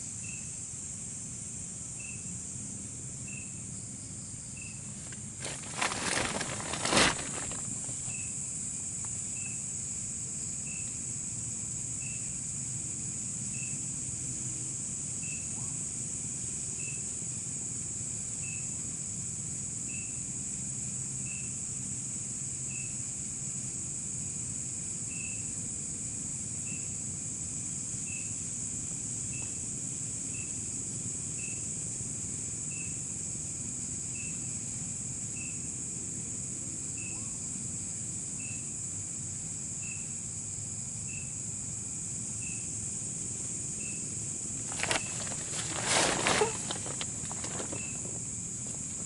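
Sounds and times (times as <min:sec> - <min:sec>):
insect short chirp: 0:00.0 - 0:16.0, 0:16.6 - 0:17.5, 0:18.2 - 0:19.2, 0:19.8 - 0:20.4, 0:21.2 - 0:21.8, 0:22.6 - 0:23.2, 0:25.1 - 0:25.6, 0:26.4 - 0:27.2, 0:27.8 - 0:31.8, 0:32.6 - 0:35.8, 0:36.8 - 0:49.0.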